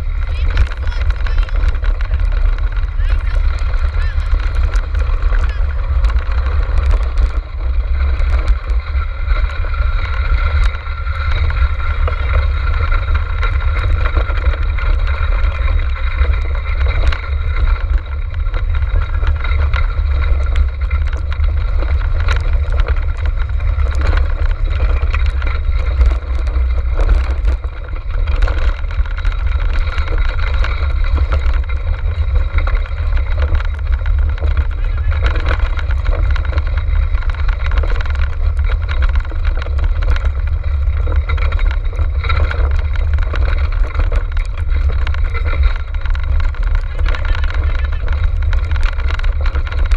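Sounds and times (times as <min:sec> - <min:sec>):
kart clicks and rattles: 0:00.0 - 0:49.9
wind rumble: 0:00.0 - 0:49.9.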